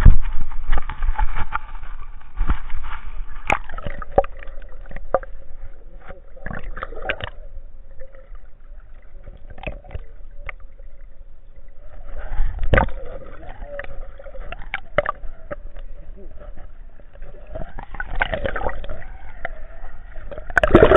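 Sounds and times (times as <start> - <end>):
underwater surf sloshing: 0.0 - 20.9.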